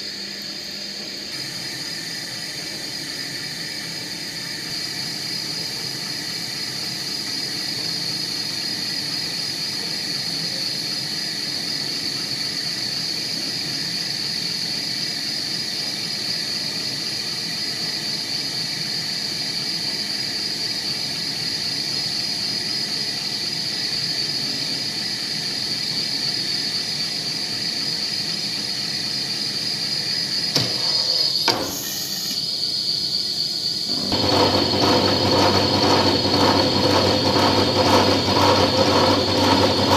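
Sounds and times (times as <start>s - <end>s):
milling machine whine and hum: 0.0s - 39.9s.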